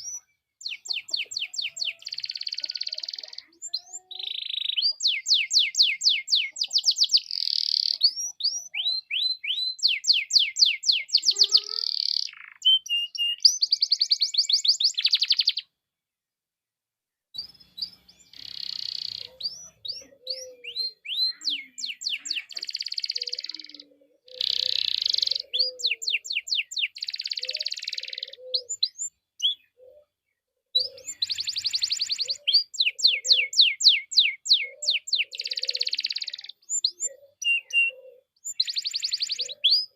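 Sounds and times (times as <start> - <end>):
canary singing trills: 0.0 - 15.8, 17.4 - 39.9.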